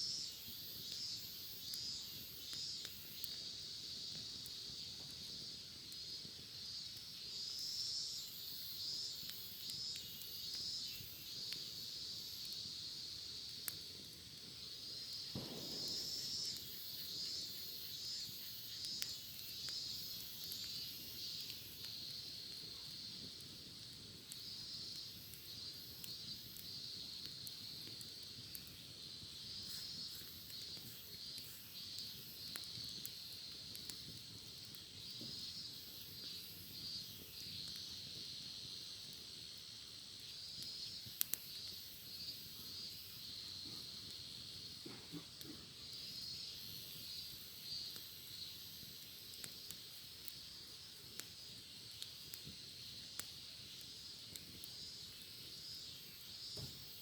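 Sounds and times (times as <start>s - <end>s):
cicadas singing: 0.0s - 34.1s, 34.8s - 57.0s
wood fire crackling: 0.0s - 57.0s.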